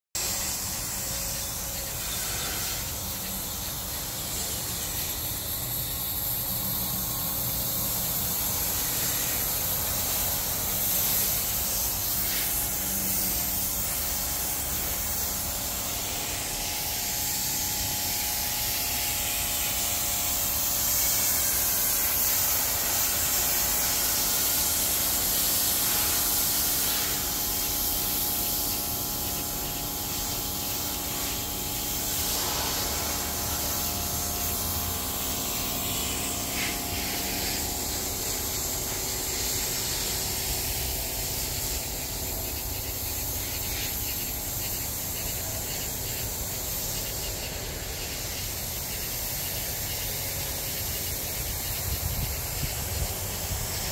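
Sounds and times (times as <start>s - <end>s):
motor and pump humming: 0.2s - 53.9s
pressure washer jet hissing: 0.2s - 53.9s.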